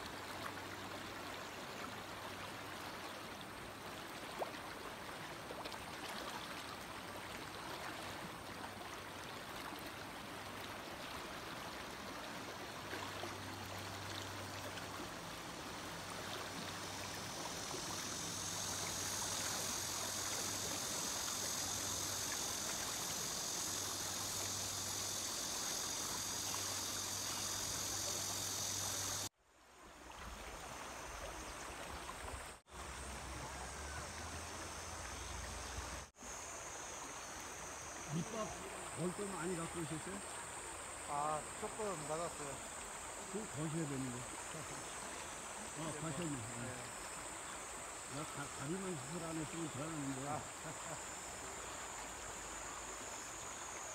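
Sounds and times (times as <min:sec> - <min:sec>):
water rushing through river riffle: 0:00.0 - 0:53.9.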